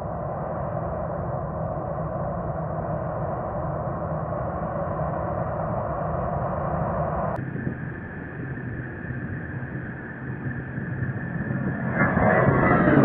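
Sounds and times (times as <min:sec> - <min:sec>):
distant jet takeoff rumble: 0:00.0 - 0:13.0
jet engines running: 0:00.0 - 0:13.0.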